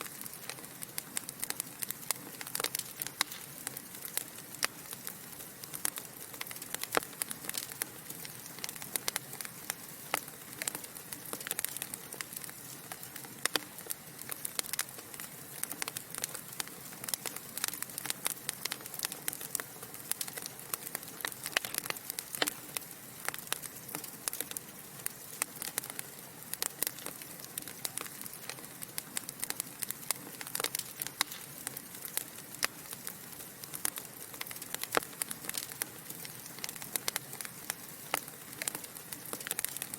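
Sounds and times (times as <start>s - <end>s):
logs crackling and popping: 0.0s - 39.9s
soft fire hiss: 0.0s - 39.9s.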